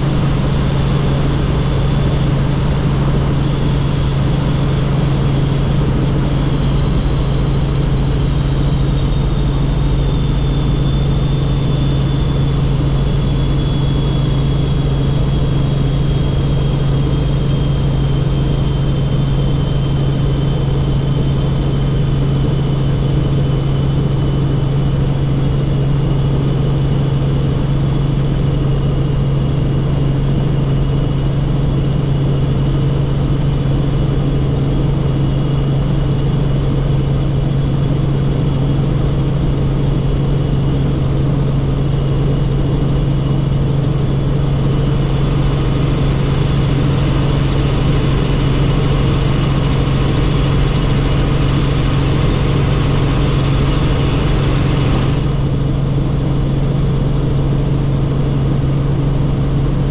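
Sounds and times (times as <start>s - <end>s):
helicopter engine and rotors: 0.0s - 59.9s
high turbine whine: 0.0s - 59.9s.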